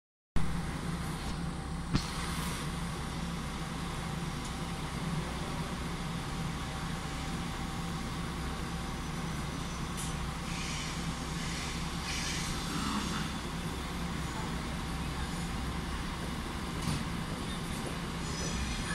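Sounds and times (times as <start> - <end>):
mechanical drone with low hum: 0.4 - 18.9.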